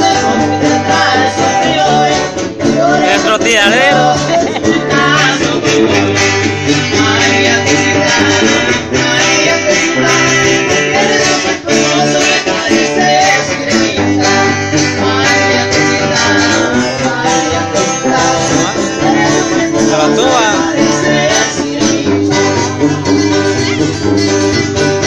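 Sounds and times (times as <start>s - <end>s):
plucked guitar picking: 0.0s - 25.0s
tuba bass line: 0.0s - 25.0s.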